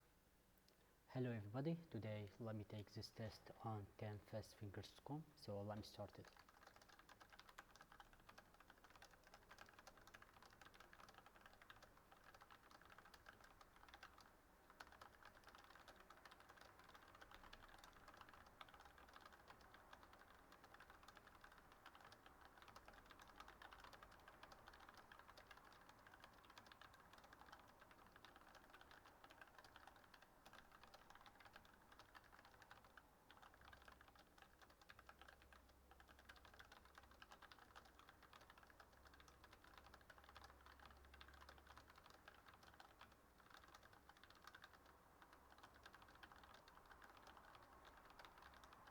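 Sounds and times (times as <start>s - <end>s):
fast typing on keyboard: 2.0s - 48.9s.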